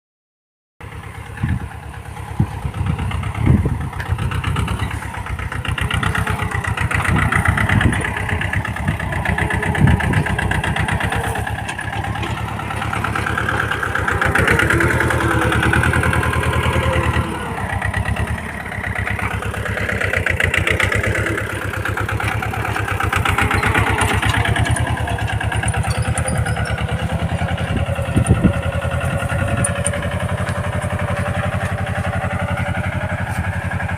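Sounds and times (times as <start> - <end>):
tractor diesel engine running: 0.8 - 33.9.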